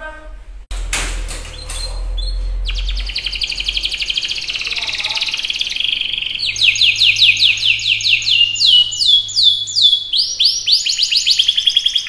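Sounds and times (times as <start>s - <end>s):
canary singing: 1.4s - 12.0s.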